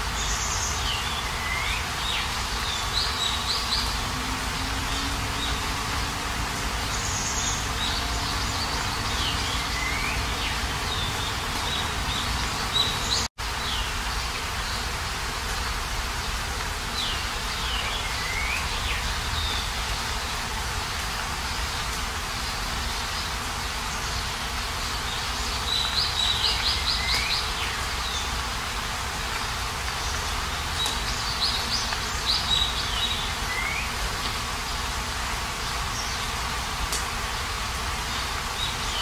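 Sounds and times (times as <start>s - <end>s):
birds chirping: 0.0s - 15.0s, 16.1s - 36.7s
rainfall hiss: 0.0s - 39.0s.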